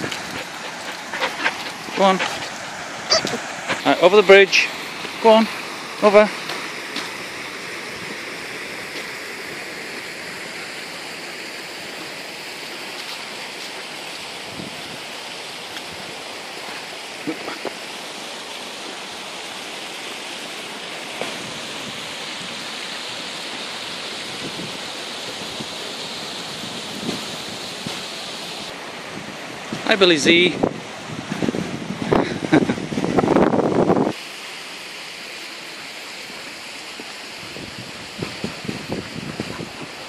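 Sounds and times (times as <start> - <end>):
water rushing through lock gates: 0.0 - 40.0.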